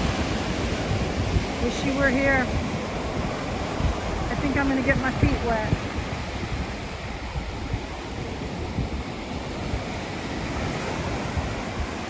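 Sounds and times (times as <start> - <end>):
ocean waves washing ashore: 0.0 - 12.0
wind buffeting microphone: 0.0 - 12.0.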